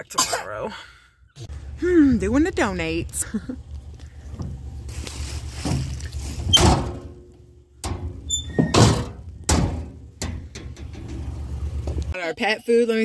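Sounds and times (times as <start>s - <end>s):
low steady rumble: 1.0s - 12.2s.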